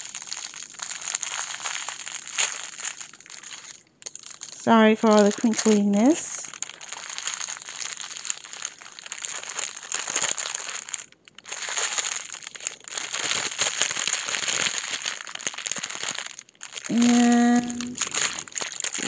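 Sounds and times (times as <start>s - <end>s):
plastic packets crinkling: 0.0s - 19.0s.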